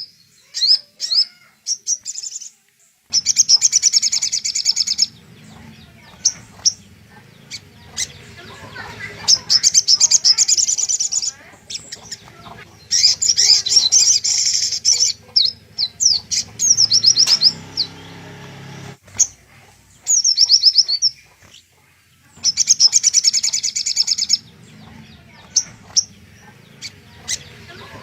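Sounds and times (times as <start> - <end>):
bird trilling song: 0.0 - 28.0.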